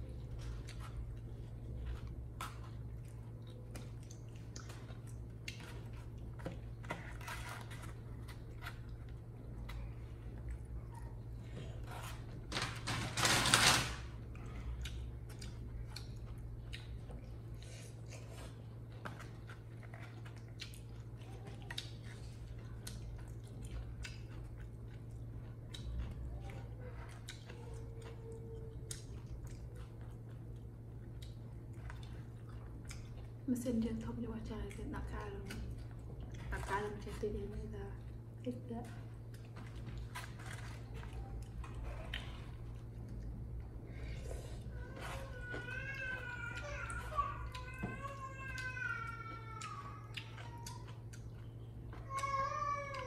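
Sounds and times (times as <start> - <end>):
chewing: 0.0 - 12.5, 14.2 - 33.5, 34.6 - 37.3, 38.0 - 48.7, 49.3 - 52.0
steady low hum: 0.0 - 13.2, 13.9 - 53.0.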